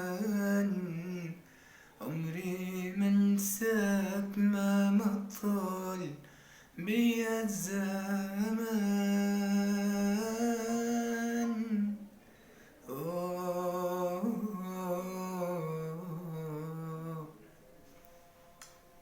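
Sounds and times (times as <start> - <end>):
man singing wordless melody: 0.0 - 17.7.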